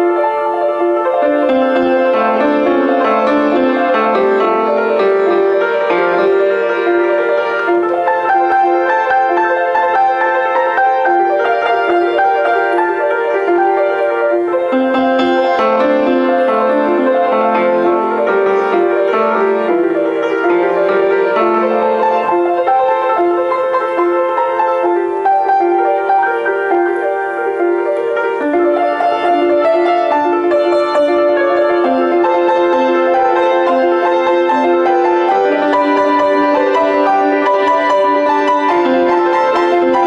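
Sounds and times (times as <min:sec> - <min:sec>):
solo piano improvisation: 0:00.0 - 0:40.0.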